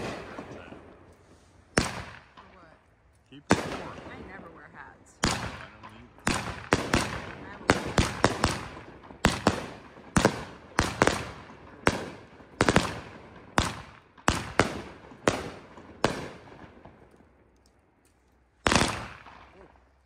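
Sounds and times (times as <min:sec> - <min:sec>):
fireworks bangs: 0:00.0 - 0:17.4, 0:18.6 - 0:20.0.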